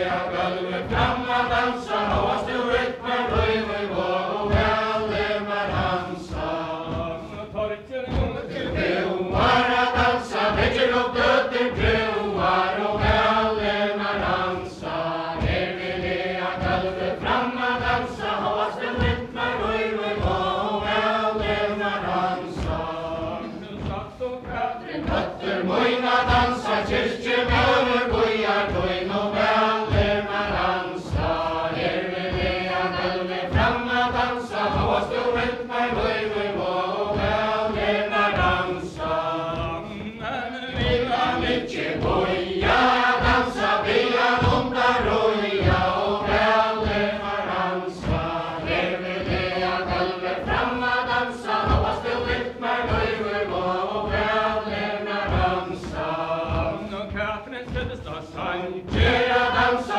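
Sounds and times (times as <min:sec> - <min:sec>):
dance steps thudding on wood: 0:00.0 - 0:59.9
group singing in unison: 0:00.0 - 0:59.9.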